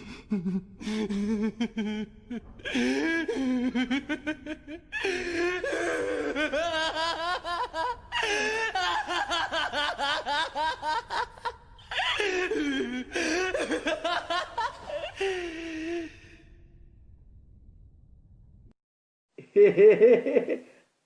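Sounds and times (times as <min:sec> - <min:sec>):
person laughing: 0:00.3 - 0:16.2, 0:19.4 - 0:20.8.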